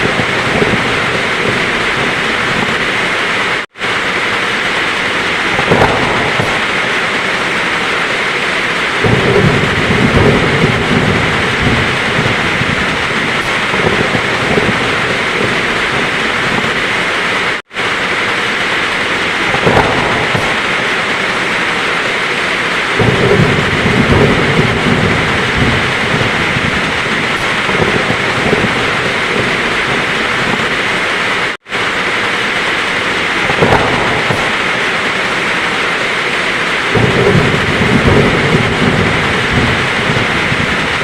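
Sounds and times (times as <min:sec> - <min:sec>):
heavy rain pouring: 0:00.0 - 0:41.0
thunder rumbling: 0:00.0 - 0:41.0.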